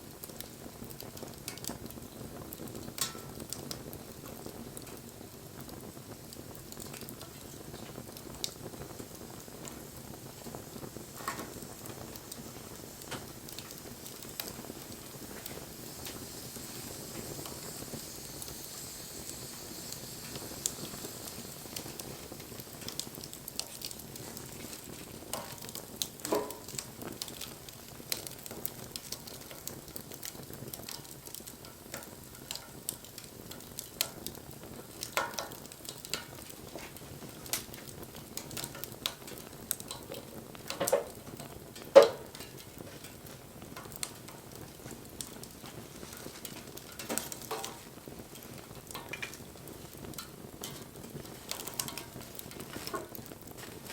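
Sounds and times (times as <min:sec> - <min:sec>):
campfire crackling: 0:00.0 - 0:53.9
fire popping: 0:00.0 - 0:53.9.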